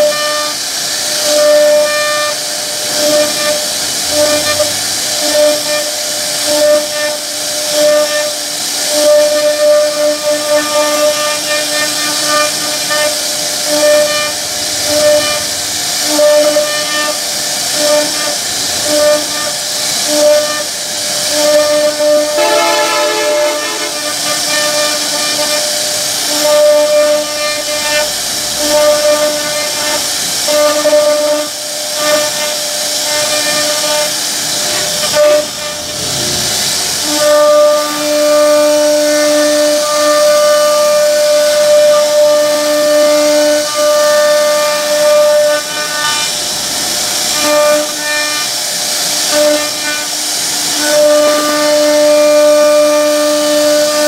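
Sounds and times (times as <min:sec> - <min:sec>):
router spindle whining: 0:00.0 - 0:48.5
hiss of wood cutting: 0:00.0 - 0:54.0.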